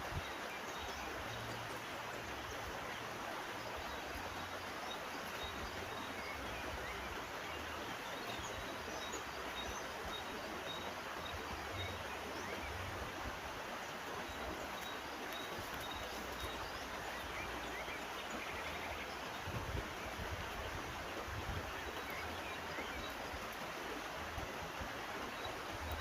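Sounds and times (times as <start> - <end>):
river flowing: 0.0 - 26.0.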